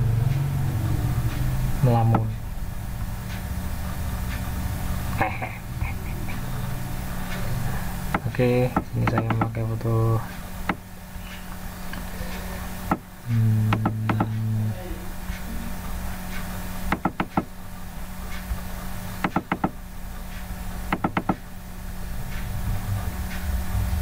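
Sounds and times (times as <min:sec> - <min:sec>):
loud low buzz: 0:00.0 - 0:24.0
low electrical hum: 0:00.0 - 0:24.0.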